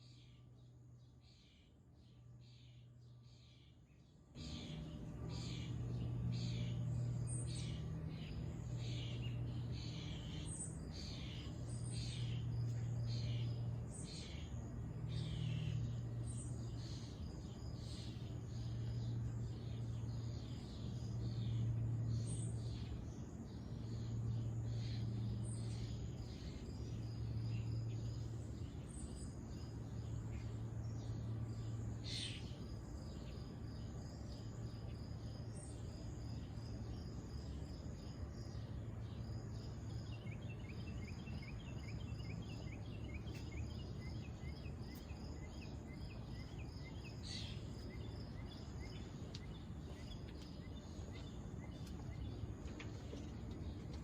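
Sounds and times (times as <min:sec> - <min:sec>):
insects chirping: 0:00.0 - 0:54.0
low hum: 0:00.0 - 0:54.0
small birds chirping: 0:00.0 - 0:54.0.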